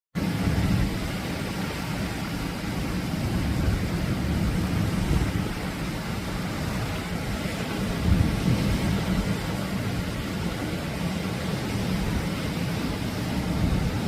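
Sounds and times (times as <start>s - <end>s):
surf washing onto a beach: 0.2s - 14.0s.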